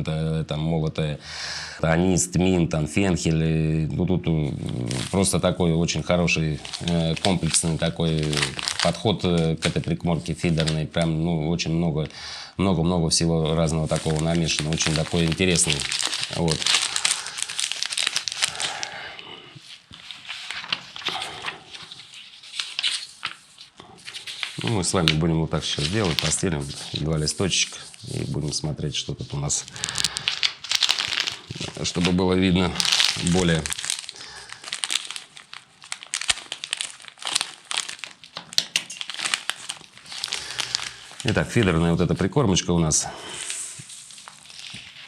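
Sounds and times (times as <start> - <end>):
plastic and paper crinkling: 4.4 - 12.1, 13.1 - 45.0.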